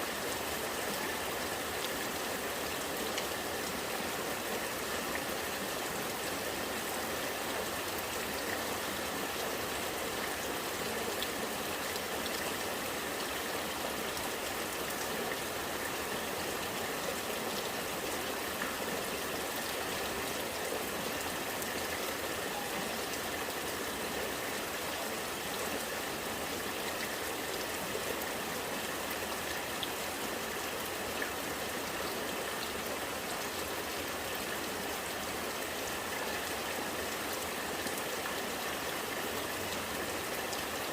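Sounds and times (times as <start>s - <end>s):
rainwater gurgling and trickling: 0.0s - 40.9s
rain pattering: 0.1s - 40.9s.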